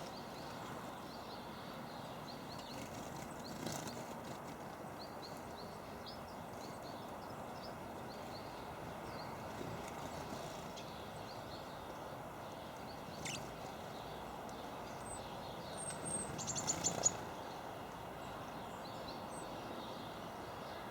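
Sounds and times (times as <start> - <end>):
outdoor background hiss: 0.0 - 20.9
small birds chirping: 0.0 - 20.9.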